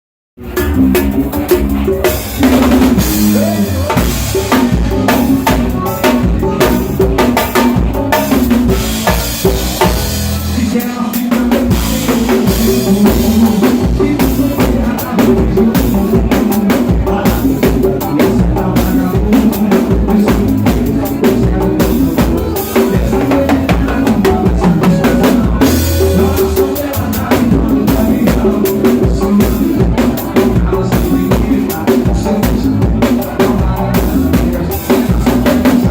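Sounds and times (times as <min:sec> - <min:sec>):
backing music: 0:00.4 - 0:35.9
drum kit playing: 0:00.4 - 0:35.9.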